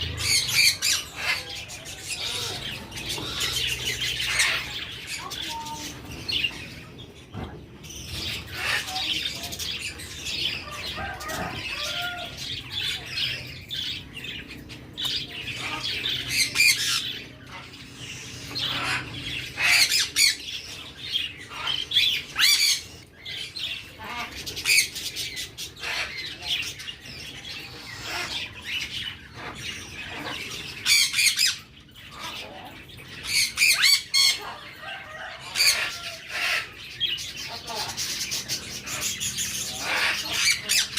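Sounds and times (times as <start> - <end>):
budgerigar chicks begging calls: 0.0 - 40.9.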